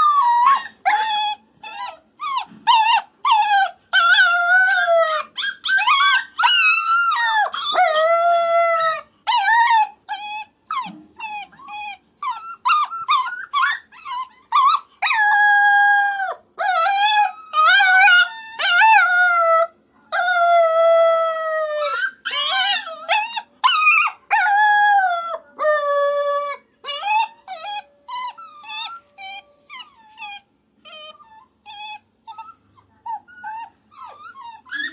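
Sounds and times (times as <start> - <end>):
puppy whining and howling: 0.0 - 34.9
puppy yips and whimpers: 0.0 - 34.9.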